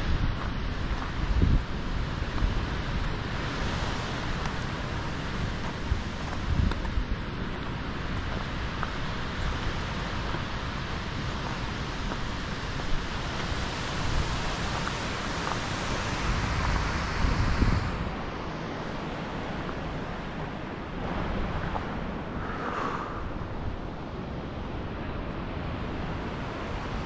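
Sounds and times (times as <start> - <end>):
rushing falling water: 0.0 - 23.6
wind gusting on microphone: 0.0 - 27.0.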